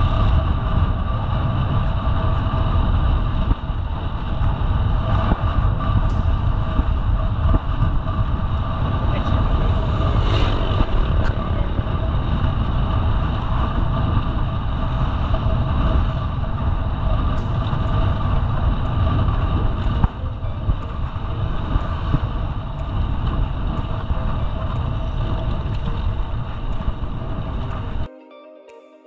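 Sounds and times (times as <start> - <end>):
bicycle road noise: 0.0 - 28.1
wind buffeting microphone: 0.0 - 28.1.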